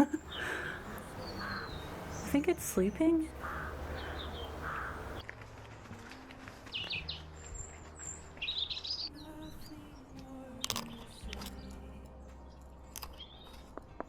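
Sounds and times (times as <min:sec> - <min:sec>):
small birds chirping: 0:00.0 - 0:05.2, 0:06.7 - 0:13.8.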